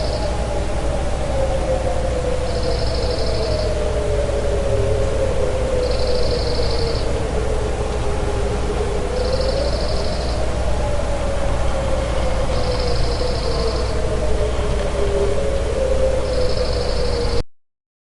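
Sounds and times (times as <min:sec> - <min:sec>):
distant wailing sirens: 0:00.0 - 0:17.4.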